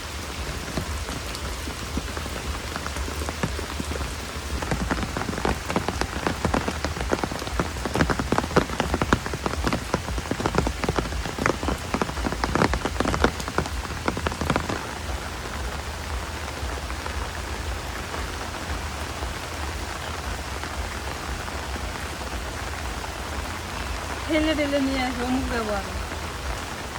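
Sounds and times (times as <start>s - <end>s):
rain falling: 0.0s - 26.9s
raindrops tapping on a surface: 0.0s - 26.9s.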